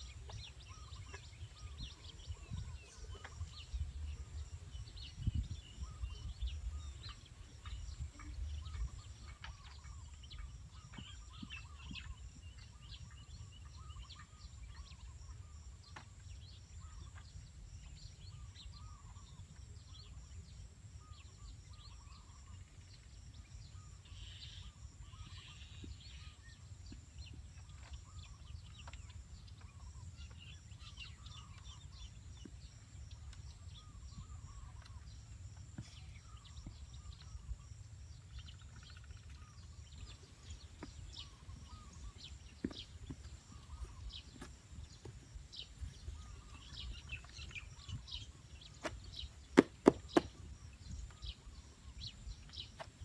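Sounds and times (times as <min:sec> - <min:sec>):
faint birds chirping: 0:00.0 - 0:53.0.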